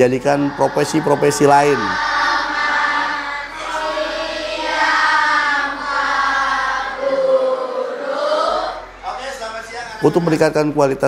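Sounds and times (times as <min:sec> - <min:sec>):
children singing in unison: 0:00.0 - 0:09.2.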